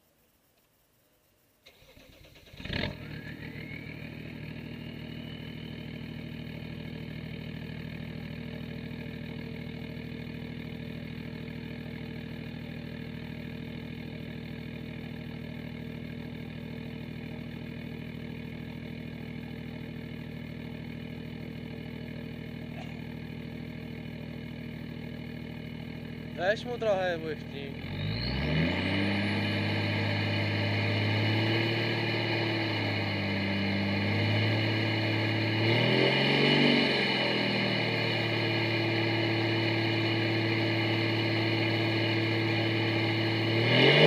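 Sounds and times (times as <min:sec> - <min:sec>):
turbo whine: 0:00.0 - 0:44.0
diesel engine starting and idling: 0:01.6 - 0:44.0.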